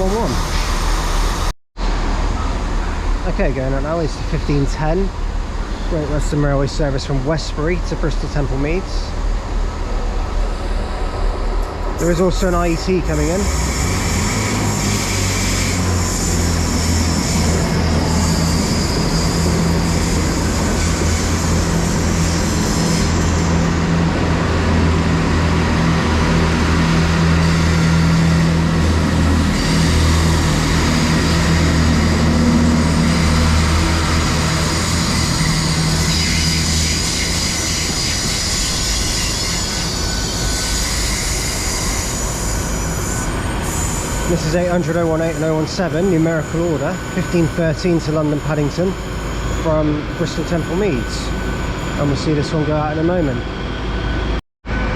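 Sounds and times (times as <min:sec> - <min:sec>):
rail and wheel noise: 0:00.0 - 0:54.9
train engines humming: 0:00.0 - 0:54.9.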